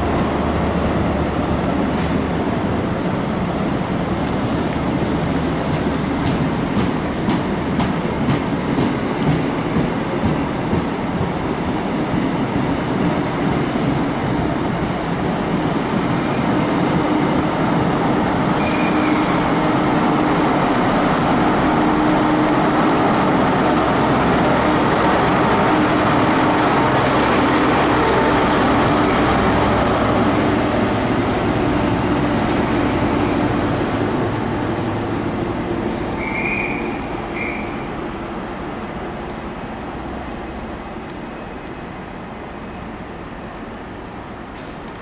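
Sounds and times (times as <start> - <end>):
diesel train engine droning: 0.0 - 45.0.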